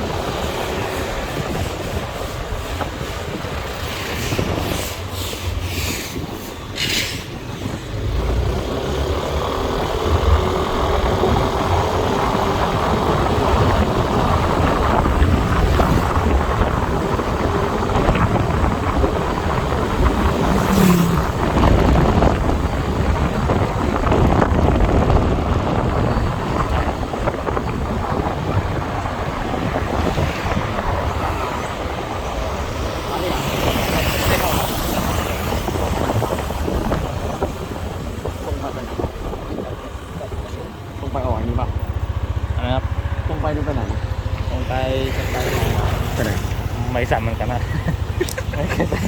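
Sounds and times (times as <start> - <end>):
motorbike engine and road noise: 0.0 - 49.0
wind rushing over microphone: 0.0 - 49.0.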